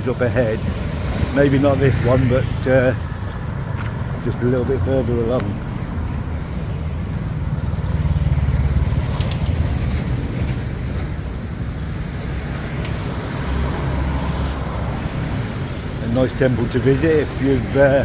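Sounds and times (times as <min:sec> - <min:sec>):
passing vehicles rumble: 0:00.0 - 0:18.0.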